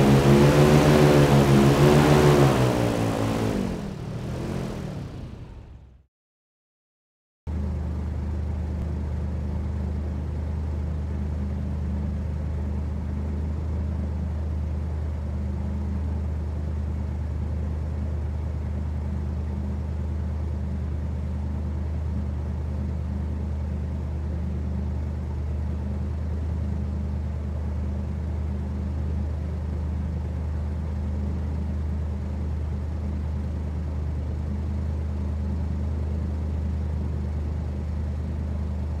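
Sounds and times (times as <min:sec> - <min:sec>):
hovercraft engine and fan humming: 0:00.0 - 0:06.0, 0:07.5 - 0:39.0.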